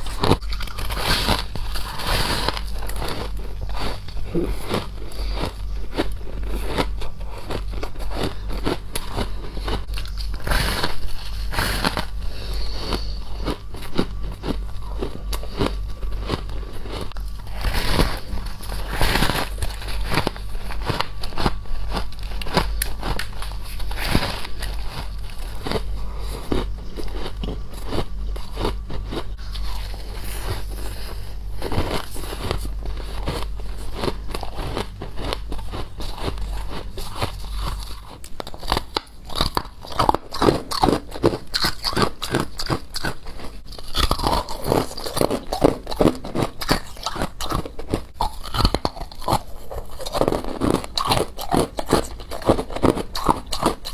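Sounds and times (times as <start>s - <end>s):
ice being chewed: 0.0s - 53.9s
low hum: 0.0s - 53.9s.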